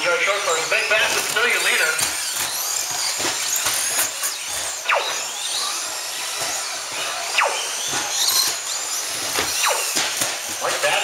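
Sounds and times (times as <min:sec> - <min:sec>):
rc truck motors whining: 0:00.0 - 0:11.0.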